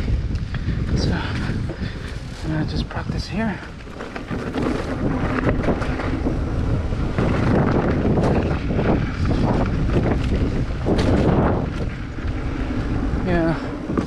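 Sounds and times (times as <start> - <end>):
bike knocking and rattling: 0.0 - 14.0
wind buffeting microphone: 0.0 - 14.0
tyres crunching on gravel: 1.1 - 14.0.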